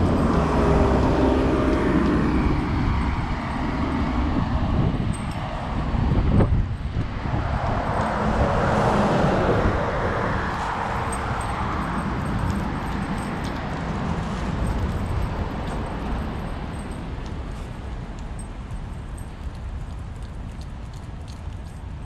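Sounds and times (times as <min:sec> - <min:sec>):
low urban rumble: 0:00.0 - 0:22.0.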